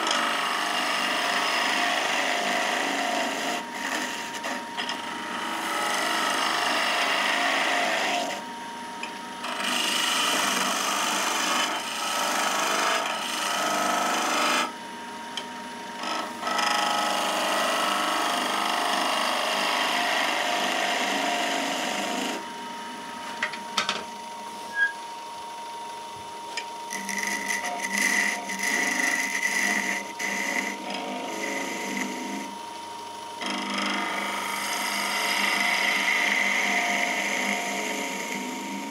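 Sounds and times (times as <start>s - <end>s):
turning tool cutting wood: 0.0s - 14.8s, 16.0s - 22.4s, 26.6s - 32.6s, 33.4s - 38.9s
lathe humming: 0.0s - 38.9s.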